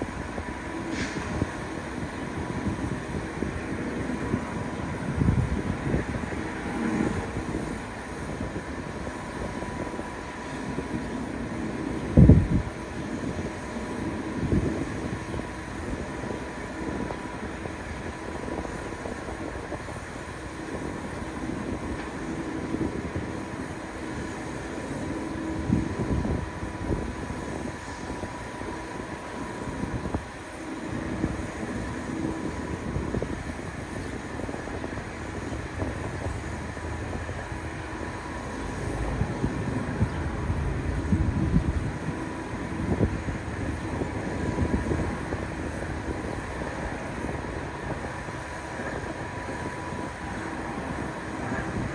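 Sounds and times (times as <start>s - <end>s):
faint jet whine: 0.0s - 51.9s
jet engines idling: 0.0s - 51.9s
wind rumbling on microphone: 0.0s - 51.9s.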